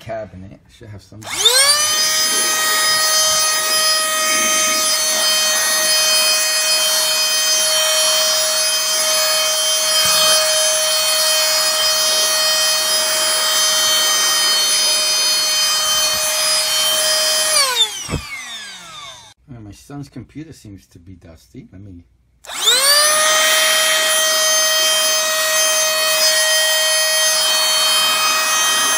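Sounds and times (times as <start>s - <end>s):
electric air duster motor whine: 1.2s - 19.4s, 22.5s - 28.9s.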